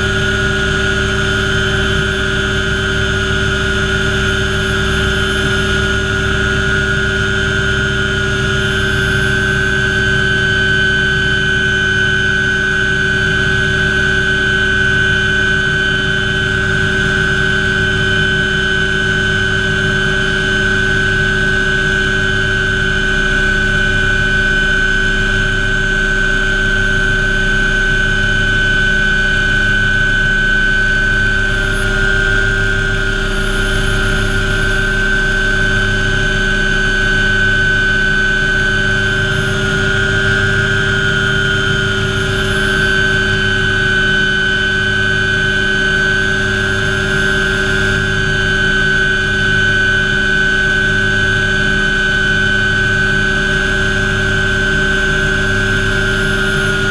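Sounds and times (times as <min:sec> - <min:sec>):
helicopter turbine and rotor: 0:00.0 - 0:56.9.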